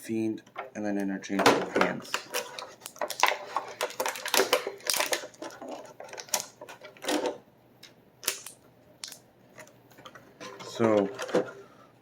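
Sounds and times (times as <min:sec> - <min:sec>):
plastic packaging clicks and crinkles: 0:00.6 - 0:11.5.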